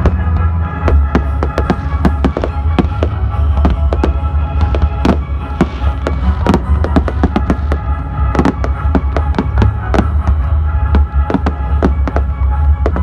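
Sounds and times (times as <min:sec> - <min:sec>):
fireworks banging: 0:00.0 - 0:13.0
music with strong bass: 0:00.0 - 0:13.0.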